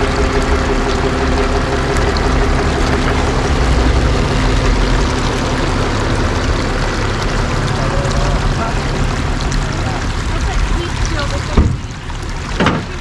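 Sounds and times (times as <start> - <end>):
creek water flowing: 0.0 - 13.0
truck engine running: 0.0 - 13.0.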